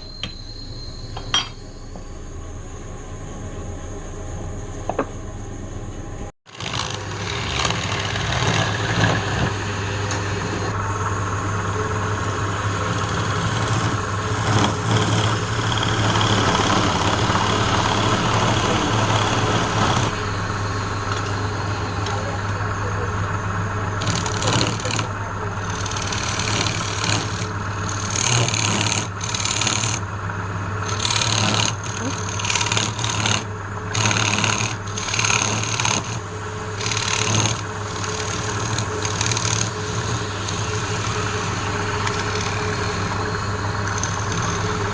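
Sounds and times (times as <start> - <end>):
lathe motor hum: 1.1 - 44.9
tool cutting spinning wood: 3.2 - 44.9.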